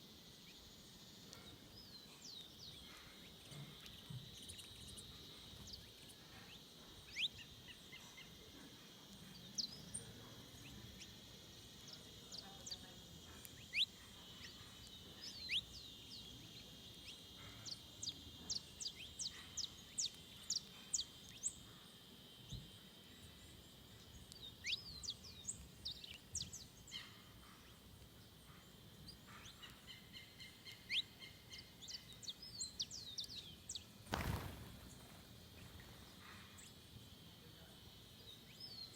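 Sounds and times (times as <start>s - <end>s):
forest birds chirping: 0.0s - 38.9s
insect trill: 0.0s - 38.9s.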